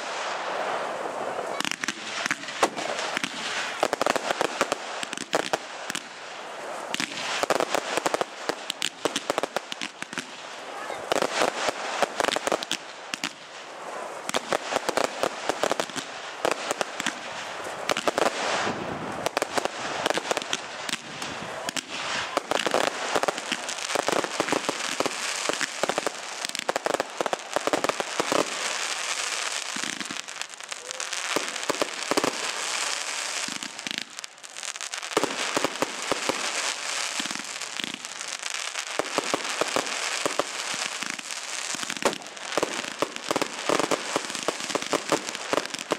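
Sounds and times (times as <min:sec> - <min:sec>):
fireworks crackling and banging: 0:00.0 - 0:45.9.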